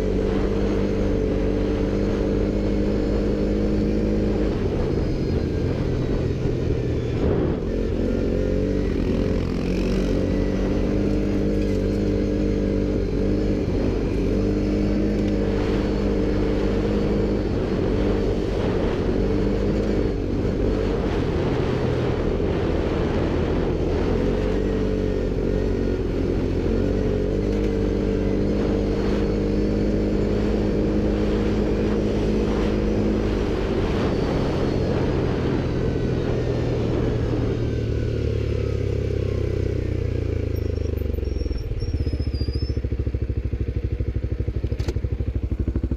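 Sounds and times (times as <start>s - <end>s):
engine droning: 0.0s - 45.9s.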